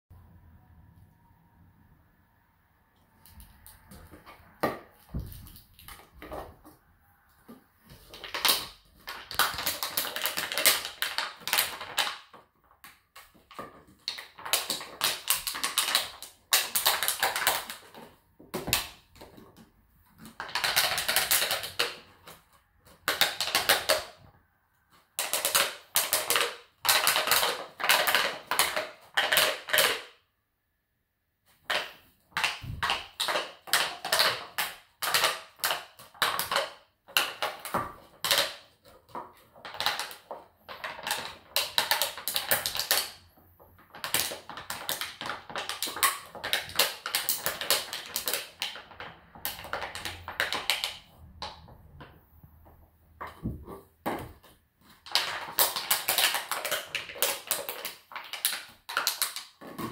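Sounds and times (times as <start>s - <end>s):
puppy chewing plastic bottle: 3.1s - 6.8s, 7.5s - 24.2s, 25.0s - 30.1s, 31.6s - 59.9s.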